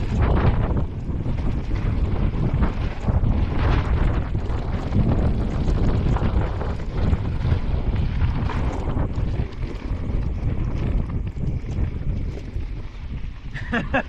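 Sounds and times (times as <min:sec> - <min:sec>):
bike tyres rumbling on dirt: 0:00.0 - 0:14.0
wind buffeting microphone: 0:00.0 - 0:14.0.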